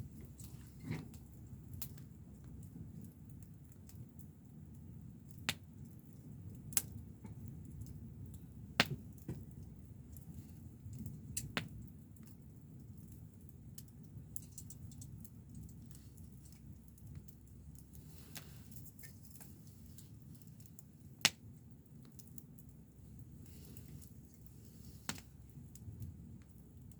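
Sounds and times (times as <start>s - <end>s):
campfire crackling and popping: 0.0s - 26.9s
low rumble of fire: 0.0s - 26.9s.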